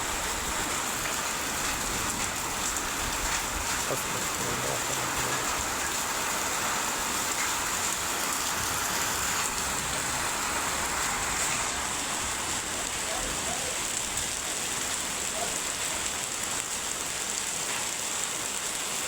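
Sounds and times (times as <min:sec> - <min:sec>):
heavy rain drumming: 0:00.0 - 0:19.0.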